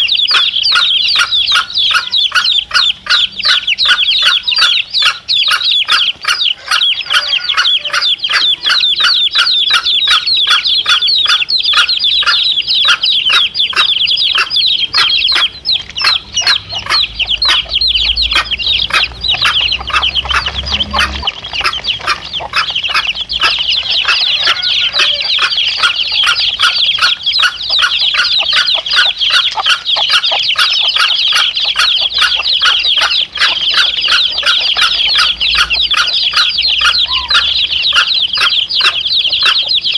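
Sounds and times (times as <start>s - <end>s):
chicks cheeping: 0.0s - 39.9s
hen clucking: 0.0s - 39.9s.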